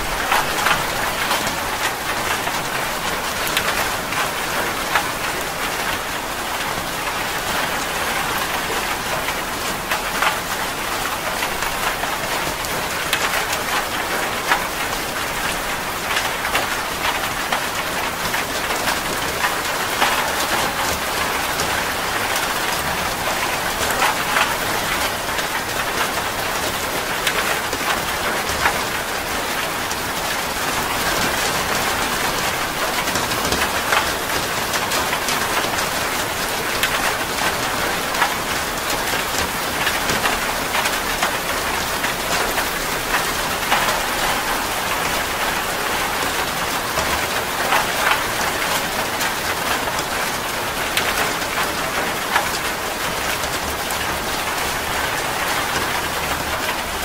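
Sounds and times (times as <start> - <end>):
steady rain falling: 0.0 - 57.0
raindrops ticking close by: 0.1 - 57.0.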